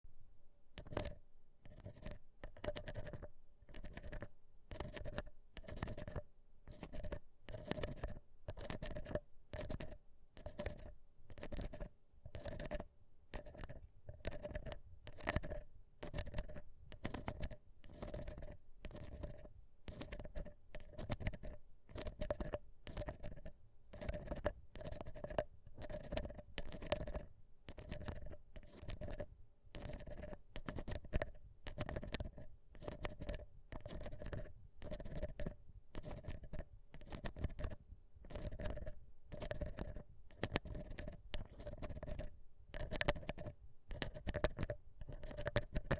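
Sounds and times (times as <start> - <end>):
ear pick scratching: 0.8 - 45.9.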